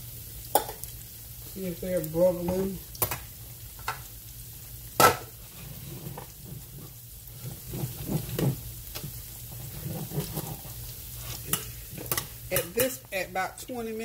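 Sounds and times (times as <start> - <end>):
patties sizzling in hot oil: 0.0 - 14.0.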